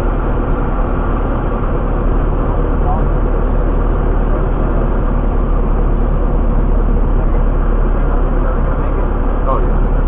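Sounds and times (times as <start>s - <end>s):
airplane engine and propeller drone: 0.0s - 10.0s.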